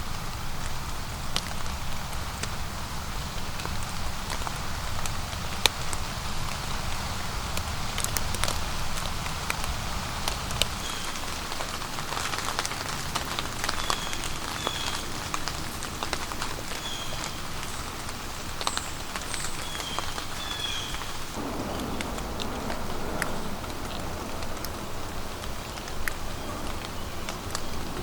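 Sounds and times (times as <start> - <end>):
rain falling through forest: 0.0 - 28.0
raindrops ticking: 0.0 - 28.0.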